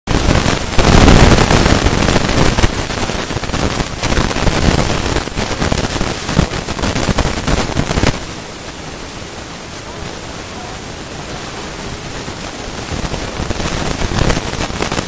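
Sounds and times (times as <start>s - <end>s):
fireworks crackling bangs: 0.1s - 9.4s, 11.2s - 15.0s.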